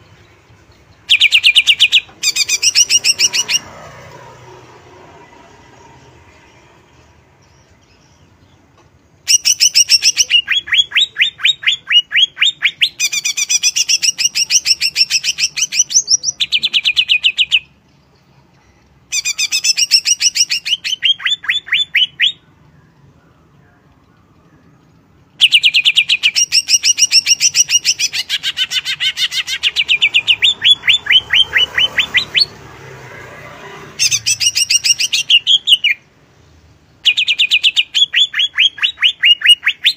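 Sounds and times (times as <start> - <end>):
bird rapid chirping song: 0.0 - 4.4, 5.1 - 39.9.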